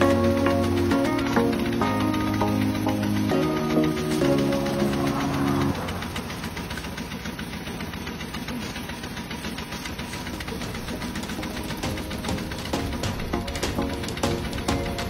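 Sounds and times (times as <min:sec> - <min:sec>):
engine running with knock: 0:00.0 - 0:15.0.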